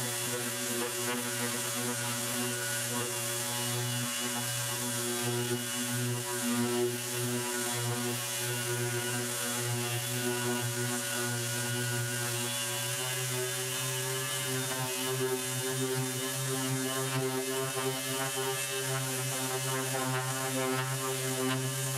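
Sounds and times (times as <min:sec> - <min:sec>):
orbit sander motor hum: 0:00.0 - 0:21.9.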